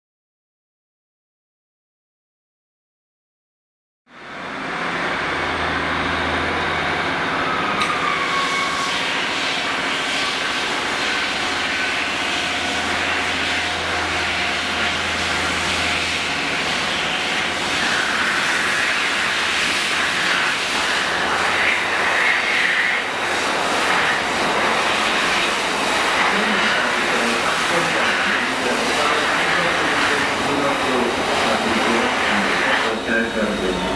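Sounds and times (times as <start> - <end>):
diesel locomotive engine running: 4.1 - 33.9.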